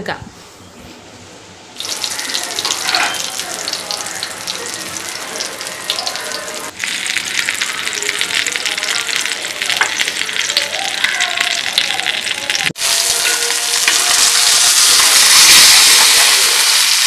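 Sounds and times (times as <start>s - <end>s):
fish sizzling in hot oil: 1.8s - 17.0s.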